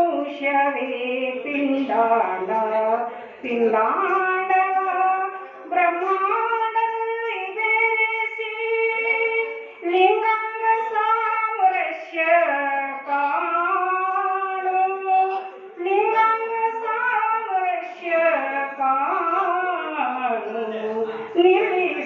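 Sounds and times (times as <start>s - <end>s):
woman singing unaccompanied: 0.0s - 22.0s.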